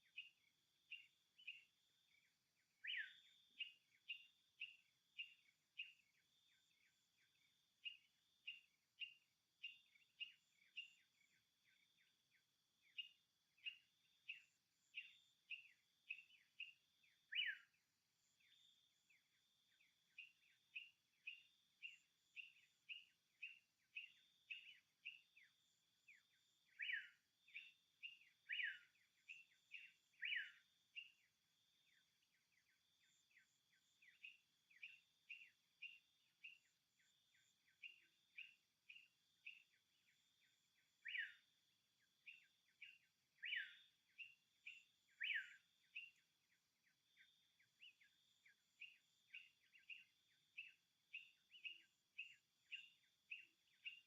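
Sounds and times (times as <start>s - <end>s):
faint bird chirping: 0.0s - 54.0s.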